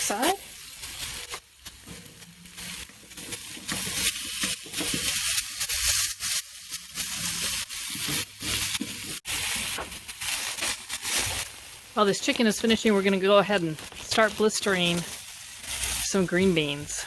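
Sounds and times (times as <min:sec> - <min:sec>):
chicken sizzling on a grill: 0:00.0 - 0:17.0.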